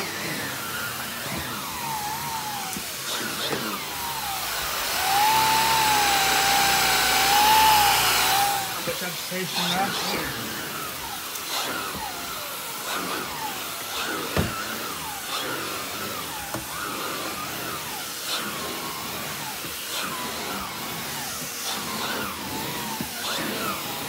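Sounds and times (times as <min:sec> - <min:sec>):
vacuum cleaner running over carpet: 0:00.0 - 0:24.0.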